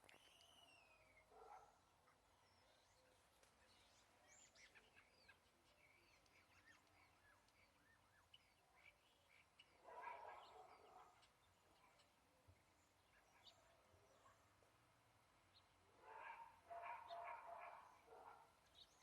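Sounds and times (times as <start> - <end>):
wild birds chirping: 0.0 - 19.0.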